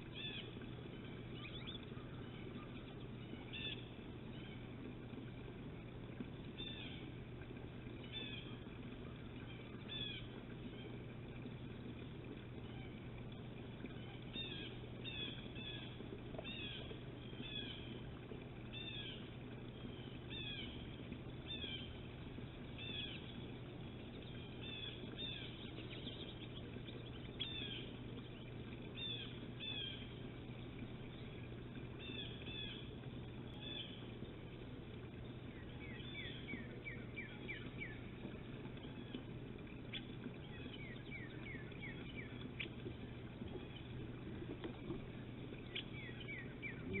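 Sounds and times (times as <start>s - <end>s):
steady low hum: 0.0s - 47.0s
songbirds scolding calls: 6.4s - 47.0s.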